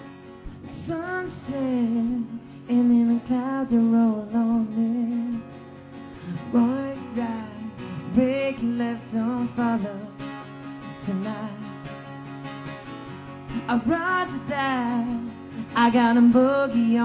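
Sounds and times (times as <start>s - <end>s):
strummed guitar: 0.0s - 17.0s
man singing: 0.4s - 5.6s, 6.2s - 12.0s, 13.5s - 17.0s.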